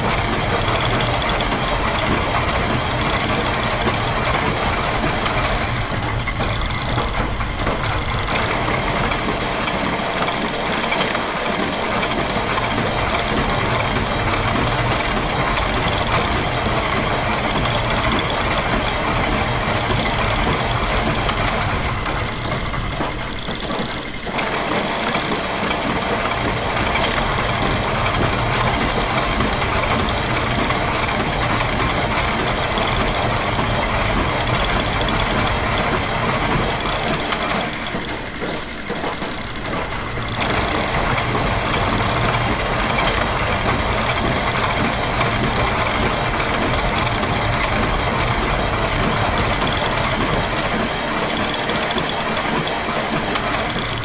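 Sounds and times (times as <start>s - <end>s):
gear clatter: 0.0s - 54.0s
mechanical hum: 0.0s - 54.0s.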